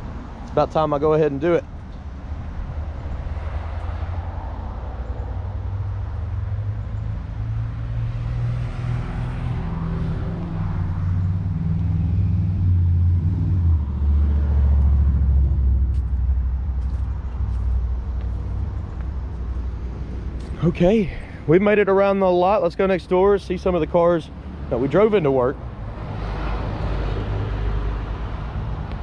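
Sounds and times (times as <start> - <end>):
motor vehicle engine rumble: 0.0 - 29.0.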